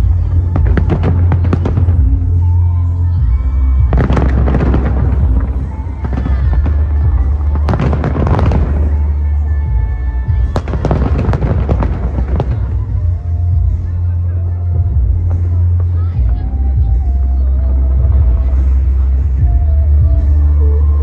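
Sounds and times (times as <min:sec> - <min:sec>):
fireworks bursting and crackling: 0:00.0 - 0:20.9
music with deep bass: 0:00.0 - 0:21.0.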